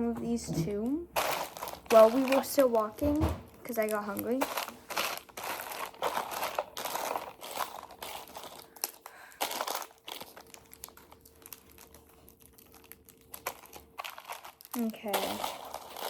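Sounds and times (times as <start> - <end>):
candy wrappers crinkling: 1.2 - 16.0.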